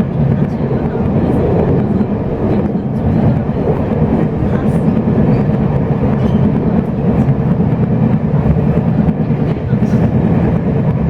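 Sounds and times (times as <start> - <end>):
train carriage running rumble: 0.0 - 11.0.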